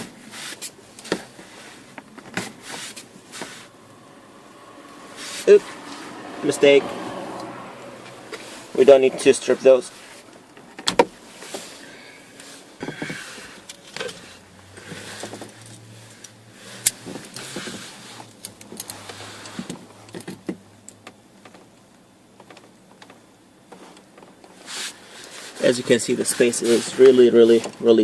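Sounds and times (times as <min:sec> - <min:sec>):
rustling of tools and wires: 0:00.0 - 0:06.8, 0:07.4 - 0:28.0.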